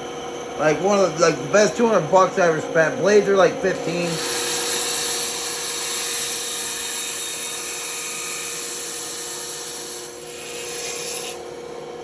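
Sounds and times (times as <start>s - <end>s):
band saw cutting wood: 0.6s - 11.6s.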